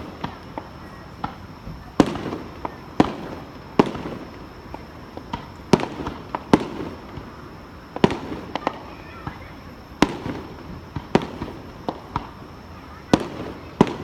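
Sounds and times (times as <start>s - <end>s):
firework shells bursting: 0.0s - 14.0s
small firework pops: 0.0s - 14.0s.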